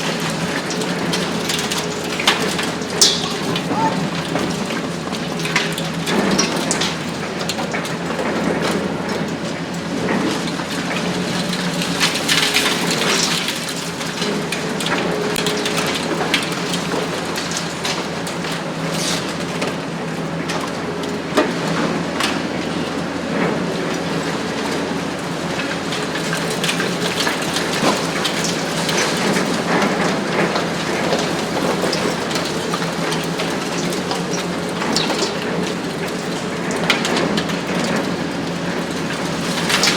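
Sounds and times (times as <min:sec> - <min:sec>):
hydraulic shear crushing concrete: 0:00.0 - 0:39.9.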